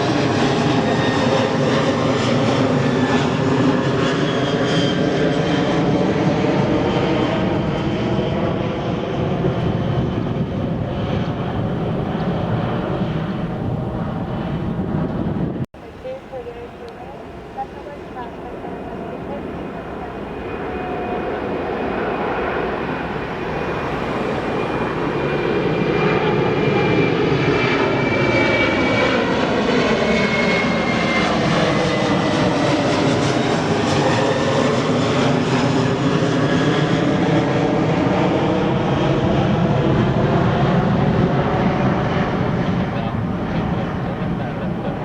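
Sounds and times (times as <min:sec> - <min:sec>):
high engine whine: 0:00.0 - 0:45.0
jet engine roar: 0:00.0 - 0:45.0.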